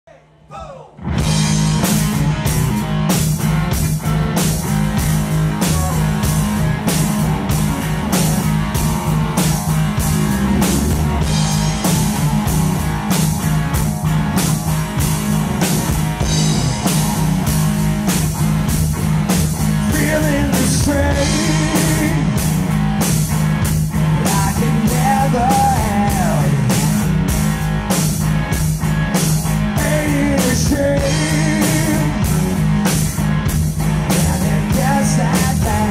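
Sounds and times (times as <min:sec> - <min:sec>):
drum kit beat: 0:01.0 - 0:35.9
electric guitar: 0:01.0 - 0:35.9.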